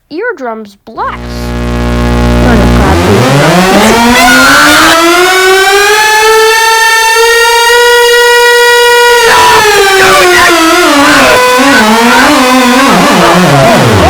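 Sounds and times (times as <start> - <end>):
warning siren wailing: 1.2 - 14.0.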